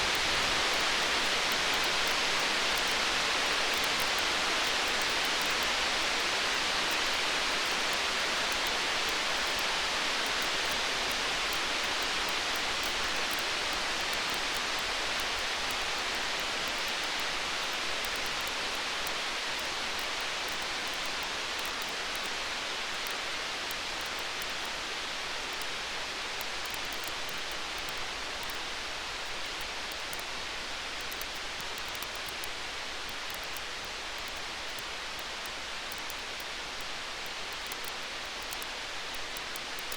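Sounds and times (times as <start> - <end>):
faint wood fire crackling: 0.0 - 39.9.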